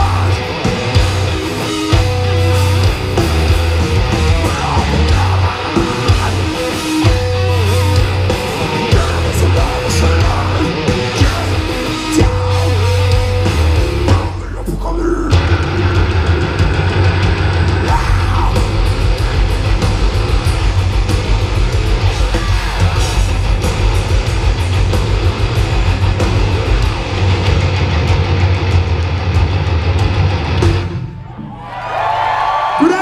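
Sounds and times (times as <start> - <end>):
heavy metal band playing: 0.0 - 33.0.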